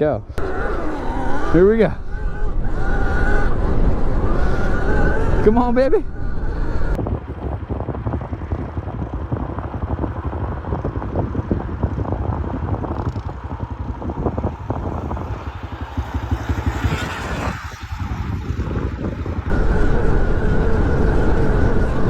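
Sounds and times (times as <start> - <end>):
wind buffeting microphone: 0.0 - 22.0
electric dirt bike rumble: 0.3 - 22.0.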